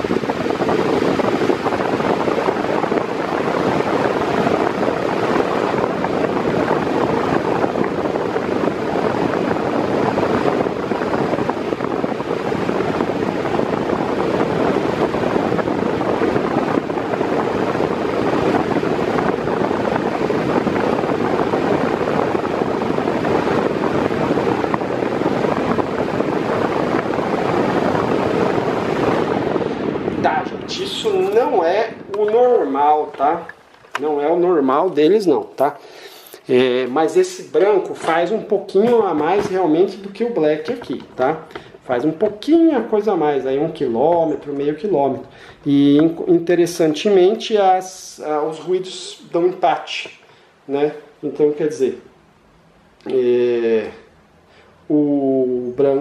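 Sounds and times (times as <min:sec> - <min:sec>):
floor fan running: 0:00.0 - 0:56.0.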